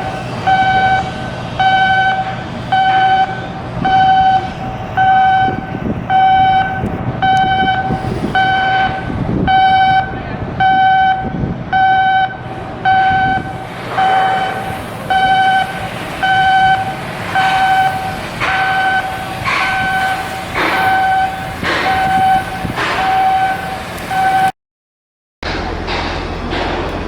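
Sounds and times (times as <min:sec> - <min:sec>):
rushing mechanical noise: 0:00.0 - 0:24.5, 0:25.4 - 0:27.0
electronic alarm beeping: 0:00.4 - 0:20.3, 0:20.9 - 0:24.5.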